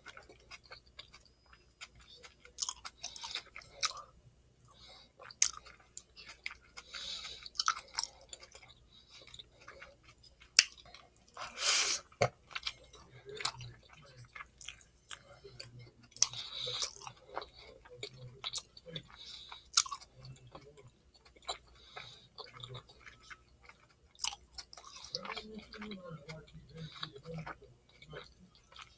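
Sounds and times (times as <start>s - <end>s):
chewing with wet smacks: 0.0s - 28.9s.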